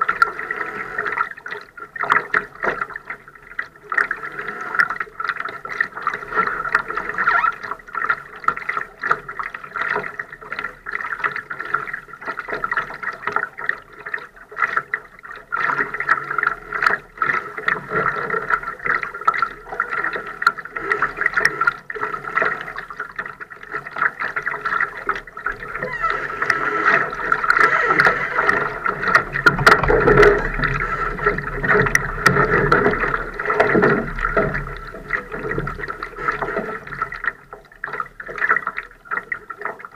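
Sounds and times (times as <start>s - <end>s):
small splashes and clicks: 0.0s - 39.9s
water lapping against boat hull: 0.0s - 39.9s.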